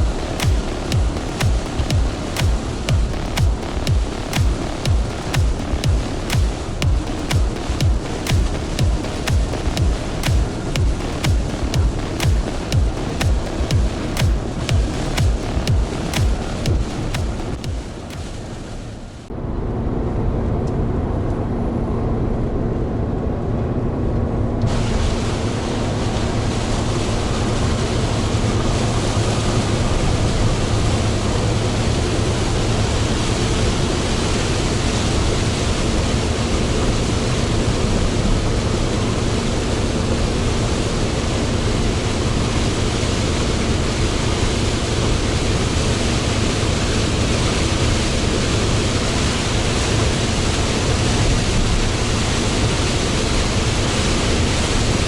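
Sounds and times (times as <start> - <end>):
rain: 0.0 - 19.3, 24.7 - 55.0
diesel engine drone: 0.0 - 55.0.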